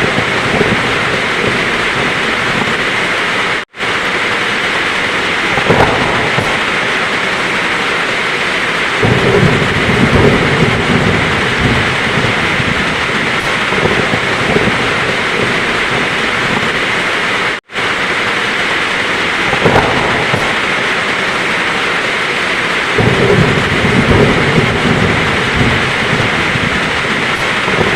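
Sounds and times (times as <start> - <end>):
heavy rain: 0.0 - 27.9
thunder rumbling: 0.0 - 27.9.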